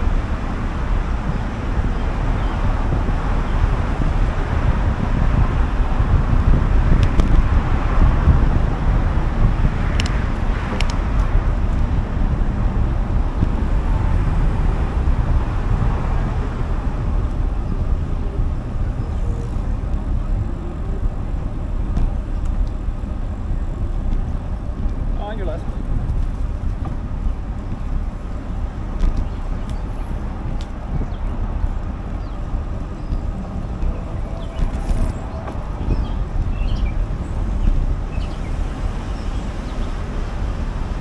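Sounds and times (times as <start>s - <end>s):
cars passing: 0.0s - 41.0s
heavy low rumble: 0.0s - 41.0s.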